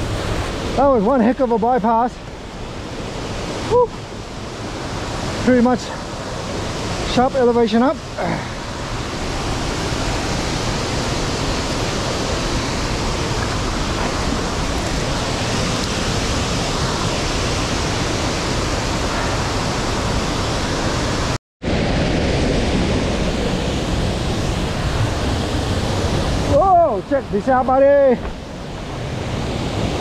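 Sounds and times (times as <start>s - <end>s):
water rushing over boulders: 0.0s - 30.0s.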